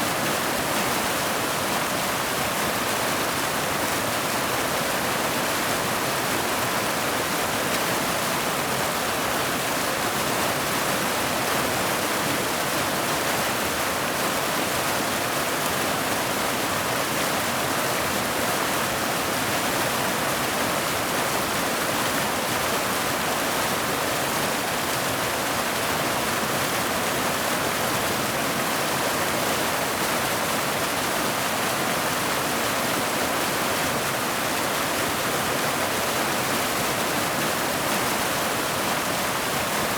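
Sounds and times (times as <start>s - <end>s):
waterfall rushing over boulders: 0.0s - 39.9s.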